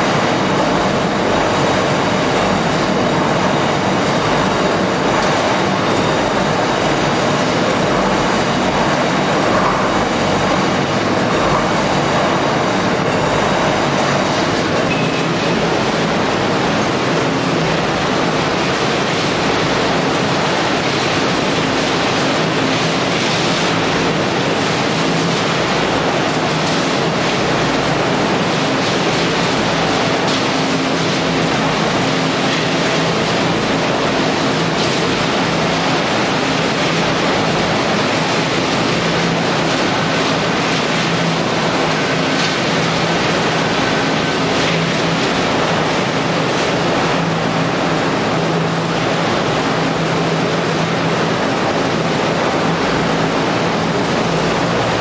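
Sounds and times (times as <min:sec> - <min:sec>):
waste shredding machinery din: 0:00.0 - 0:55.0.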